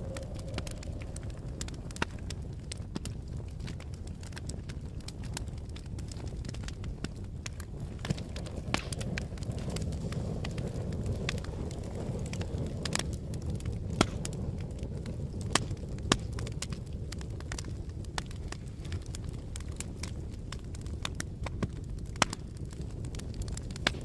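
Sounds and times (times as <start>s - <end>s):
low rush of wind: 0.0s - 24.0s
wood fire crackling and popping: 0.0s - 24.0s.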